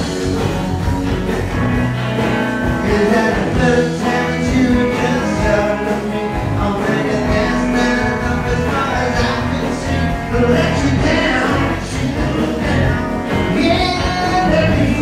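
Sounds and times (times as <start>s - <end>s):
drums: 0.0s - 15.0s
electric guitars: 0.0s - 15.0s
man singing lead vocal: 2.8s - 15.0s.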